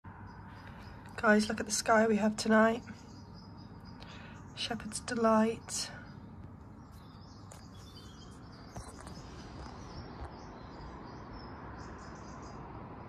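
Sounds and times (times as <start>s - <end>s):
distant bird chirps: 0.1s - 12.8s.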